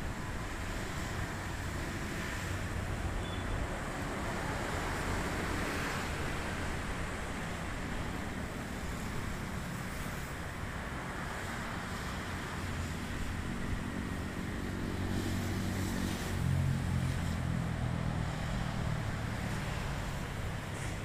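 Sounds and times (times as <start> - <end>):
rushing wind-like noise: 0.0 - 21.0
diesel locomotive engine drone: 3.8 - 21.0.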